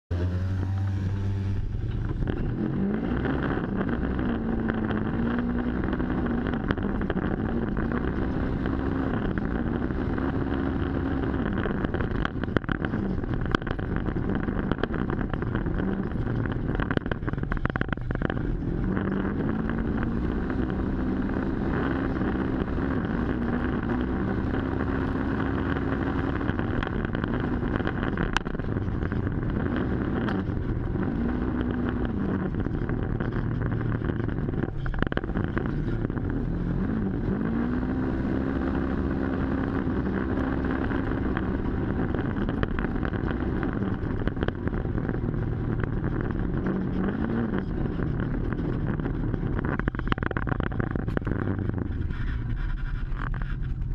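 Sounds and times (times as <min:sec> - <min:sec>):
vehicle engine revving: 0:00.1 - 0:53.9.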